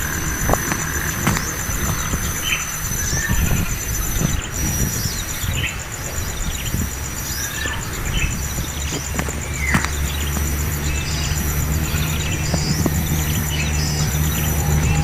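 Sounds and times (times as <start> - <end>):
bird chirping: 0.0 - 15.0
low rumble: 0.0 - 15.0.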